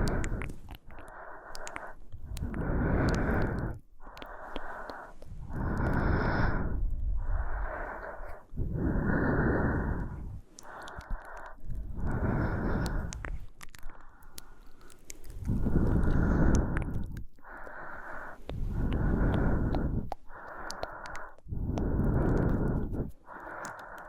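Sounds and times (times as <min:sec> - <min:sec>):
woman breathing slowly: 0:00.0 - 0:24.0.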